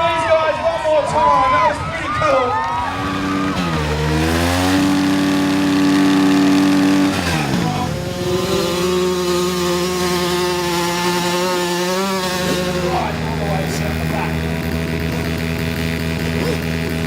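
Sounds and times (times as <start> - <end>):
dirt bike engine revving: 2.4 - 17.0.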